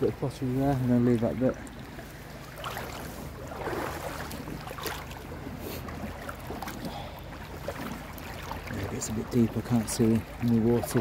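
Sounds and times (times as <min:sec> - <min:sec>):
footsteps wading through river: 0:00.0 - 0:11.0
water splashes: 0:00.0 - 0:11.0.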